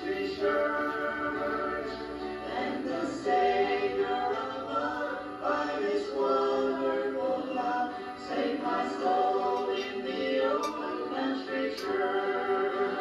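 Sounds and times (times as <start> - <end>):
group singing a hymn in harmony: 0.0 - 13.0.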